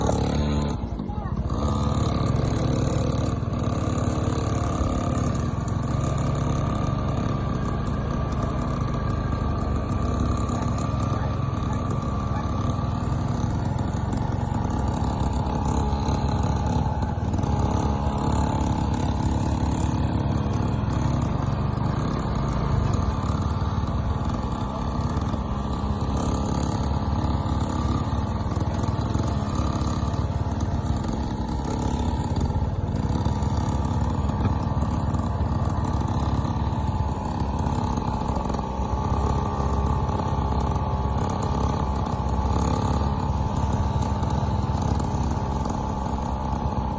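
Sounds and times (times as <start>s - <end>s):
small motorcycle engine running: 0.0s - 46.9s.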